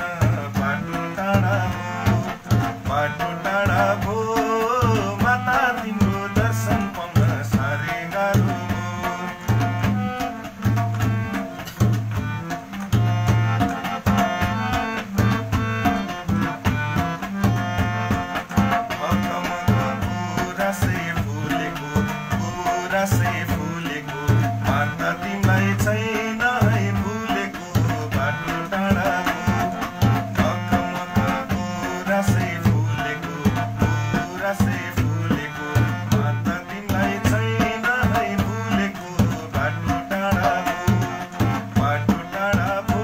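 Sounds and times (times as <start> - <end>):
harmonium reed chords: 0.0 - 43.0.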